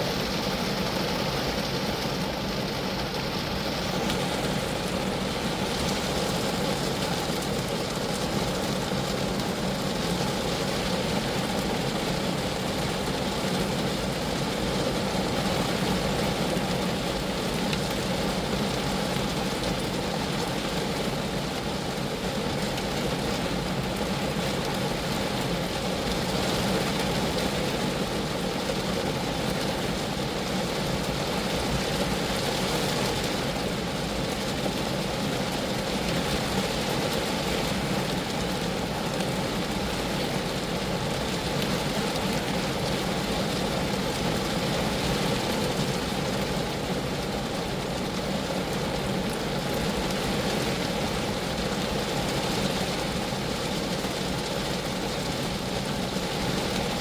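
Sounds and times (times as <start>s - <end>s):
rain falling on a car: 0.0s - 57.0s.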